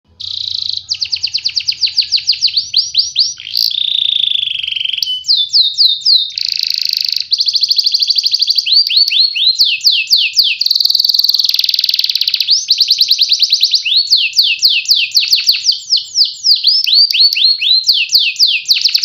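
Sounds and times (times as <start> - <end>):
canary singing trills: 0.1 - 19.0.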